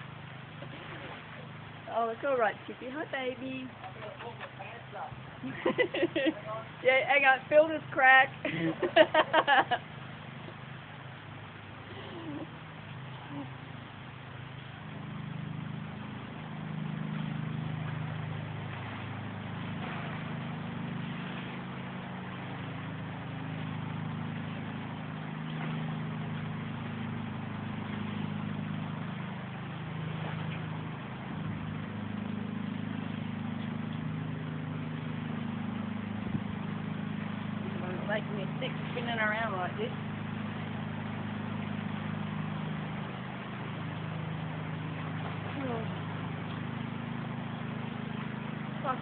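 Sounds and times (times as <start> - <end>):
low wavering hum: 0.0 - 49.0.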